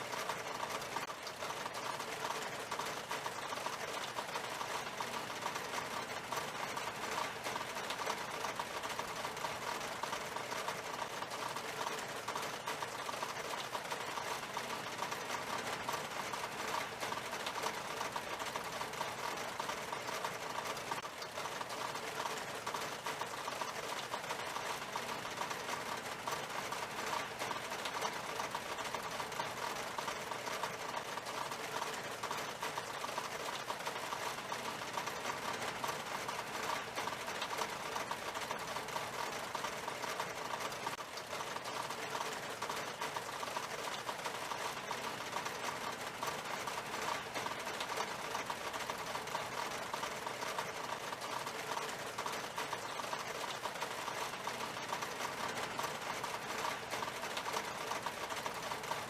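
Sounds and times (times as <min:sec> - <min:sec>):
rain pattering on window glass: 0:00.0 - 0:59.0.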